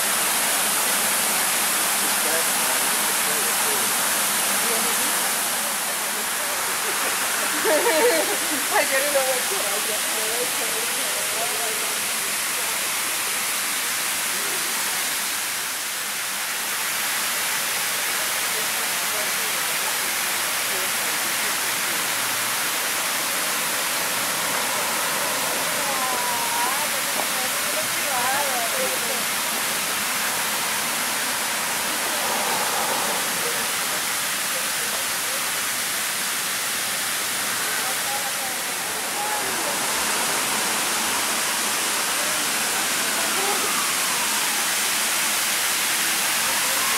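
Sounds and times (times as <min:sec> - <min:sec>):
faint voices: 0:00.0 - 0:15.4, 0:18.3 - 0:46.9
fountain water rushing: 0:00.0 - 0:46.9
steady high hiss: 0:00.0 - 0:46.9.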